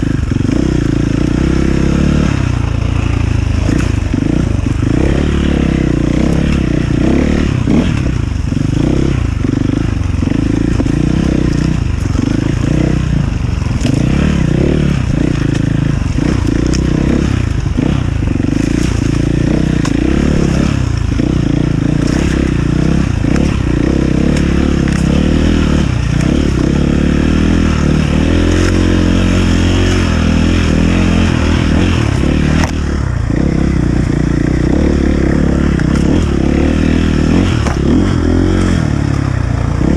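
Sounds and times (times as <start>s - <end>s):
clatter: 0.0s - 39.9s
motorcycle engine revving: 0.0s - 39.9s.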